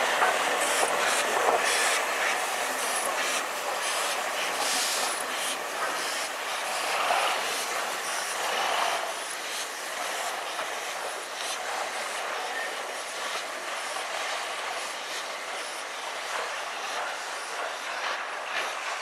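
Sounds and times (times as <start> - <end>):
steam locomotive working: 0.0 - 19.0
train wheels on rails: 0.0 - 19.0.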